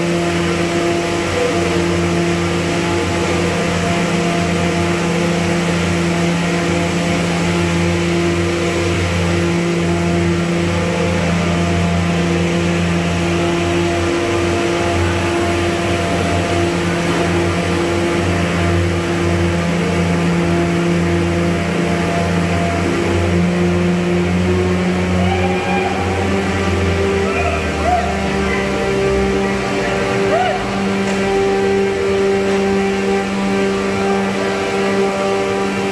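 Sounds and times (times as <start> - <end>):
loud machinery drone: 0.0 - 35.9.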